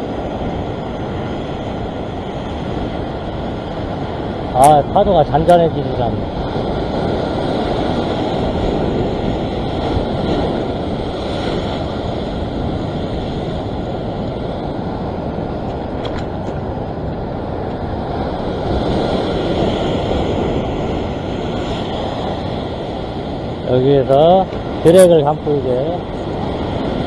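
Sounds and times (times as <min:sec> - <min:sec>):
ocean surf breaking on rocks: 0:00.0 - 0:27.0
wind buffeting microphone: 0:00.0 - 0:27.0.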